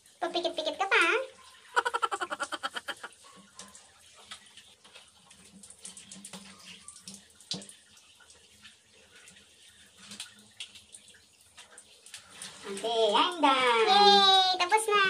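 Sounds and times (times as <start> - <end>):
bathwater splashing and dripping: 0.0 - 15.0.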